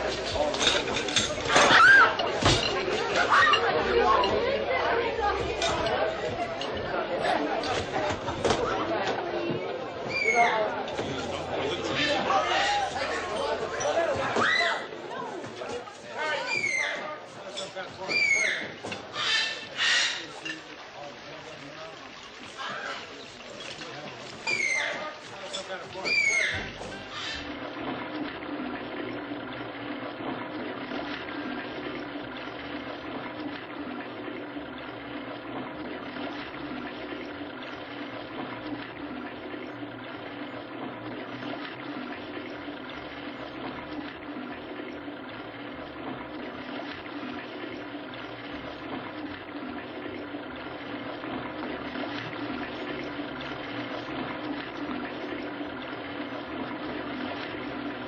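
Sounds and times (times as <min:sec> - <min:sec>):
toilet cistern flushing: 0:00.0 - 0:58.0.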